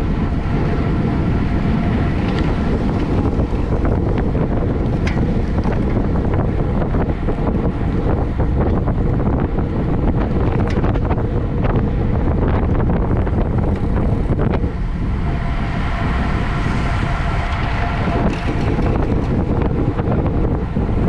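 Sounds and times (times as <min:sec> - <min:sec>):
faint steady whine: 0:00.0 - 0:21.0
wind buffeting microphone: 0:00.0 - 0:21.0.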